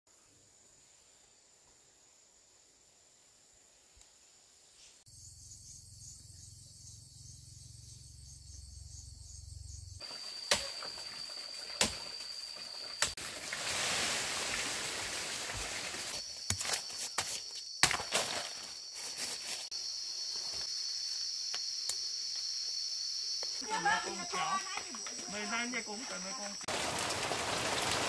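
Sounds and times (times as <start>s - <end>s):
insects trilling: 1.4s - 28.0s.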